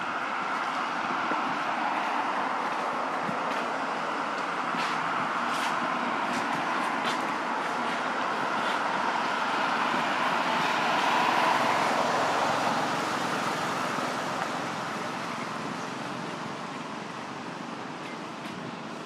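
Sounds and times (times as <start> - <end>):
vehicle passing: 0.0 - 15.8.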